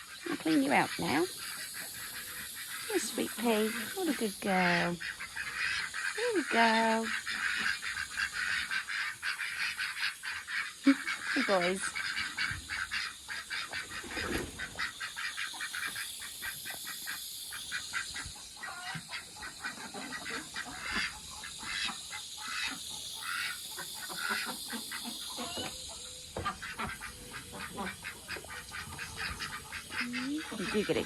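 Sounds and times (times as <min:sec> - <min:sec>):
ducks quacking: 0:00.0 - 0:31.0
water running into pond: 0:00.0 - 0:31.0.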